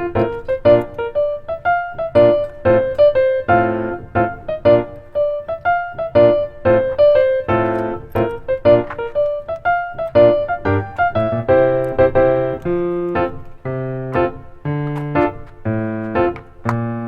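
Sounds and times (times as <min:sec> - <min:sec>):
rhythmic piano chords: 0:00.0 - 0:17.0.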